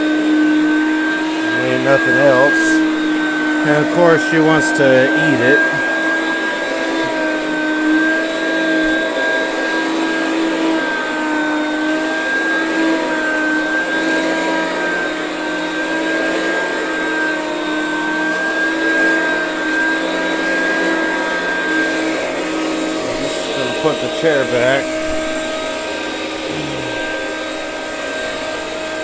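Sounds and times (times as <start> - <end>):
vacuum cleaner motor whine: 0.0 - 29.0.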